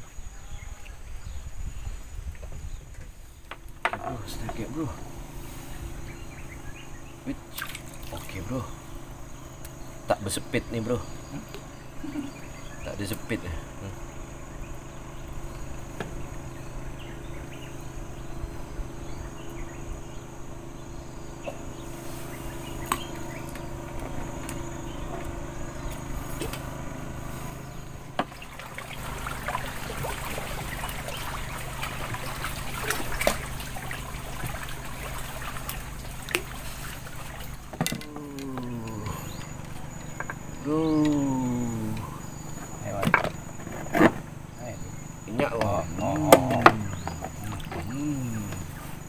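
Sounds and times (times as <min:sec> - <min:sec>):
insects buzzing: 0:00.0 - 0:49.0
water trickling: 0:04.0 - 0:20.7, 0:21.3 - 0:43.6, 0:44.3 - 0:49.0.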